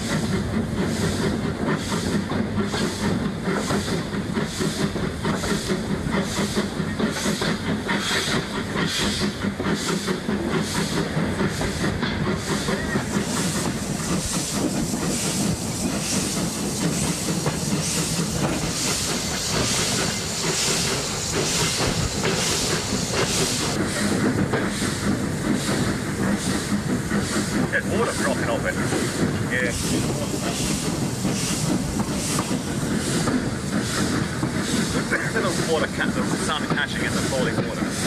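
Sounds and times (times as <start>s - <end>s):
steam engine exhaust beats: 0.0s - 38.0s
steam hissing: 0.0s - 38.0s.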